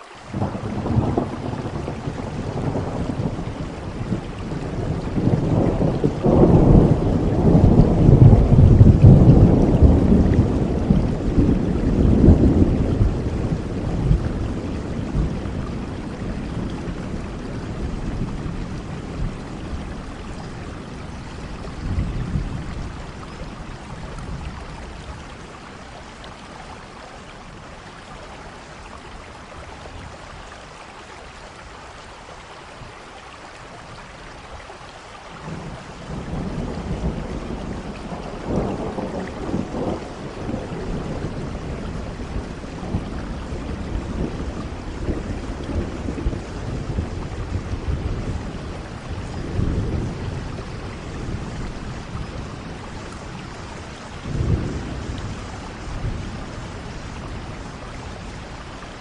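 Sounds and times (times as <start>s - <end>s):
steady rain hiss: 0.0s - 59.0s
deep roll of thunder: 0.4s - 25.7s, 35.4s - 59.0s.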